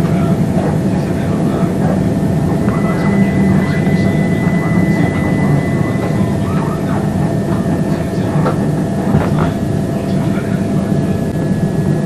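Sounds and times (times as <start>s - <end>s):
electric train whine: 0.0s - 12.0s
train wheels rumbling on track: 0.0s - 12.0s.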